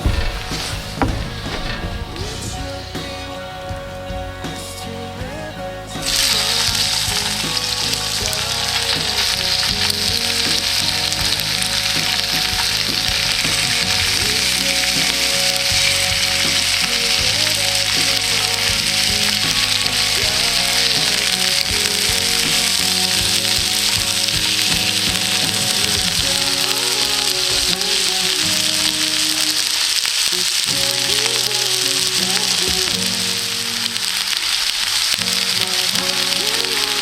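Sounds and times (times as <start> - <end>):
background music: 0.0 - 37.0
food sizzling in a pan: 6.0 - 37.0.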